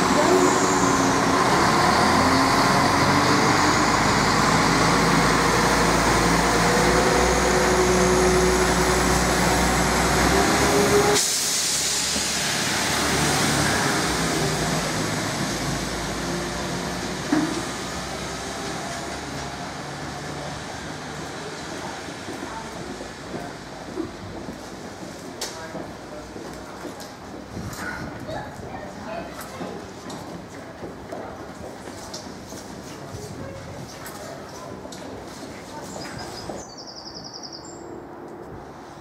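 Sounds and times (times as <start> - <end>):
train engine hum: 0.0 - 39.0
train wheel and rail noise: 0.0 - 39.0.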